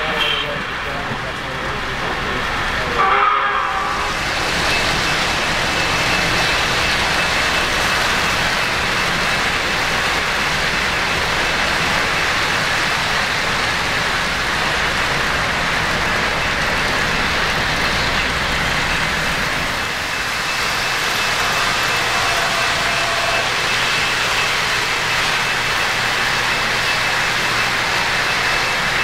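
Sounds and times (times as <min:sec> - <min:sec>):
model train wheels on metal track: 0:00.0 - 0:29.0.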